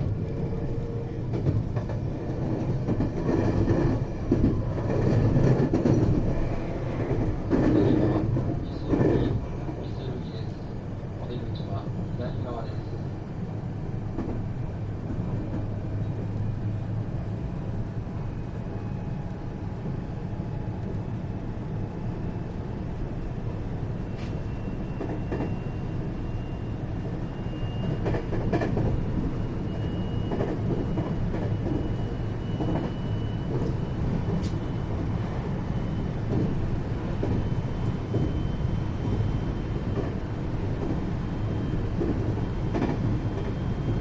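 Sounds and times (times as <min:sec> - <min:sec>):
train wheels rumbling: 0:00.0 - 0:11.6, 0:12.2 - 0:44.0.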